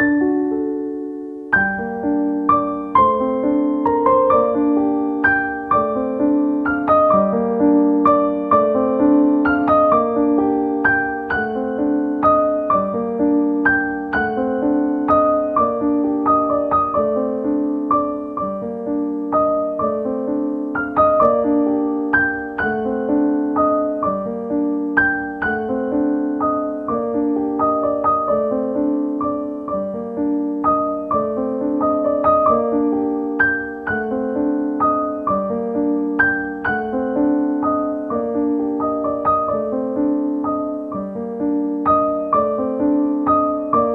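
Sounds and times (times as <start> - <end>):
solo piano music: 0.0 - 43.9.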